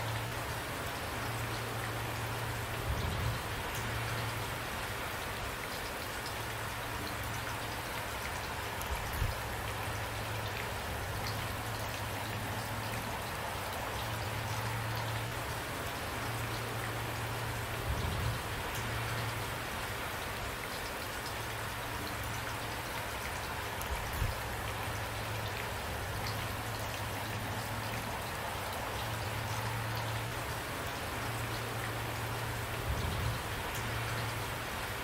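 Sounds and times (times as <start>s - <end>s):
steady rain patter: 0.0s - 35.0s.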